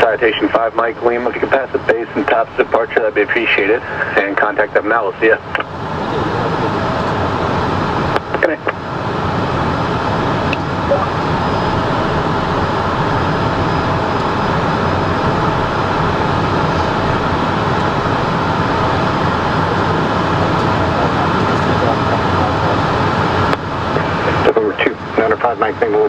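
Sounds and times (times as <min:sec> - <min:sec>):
faint steady hum: 0:00.0 - 0:26.0
jet engines rushing hiss: 0:00.0 - 0:26.0.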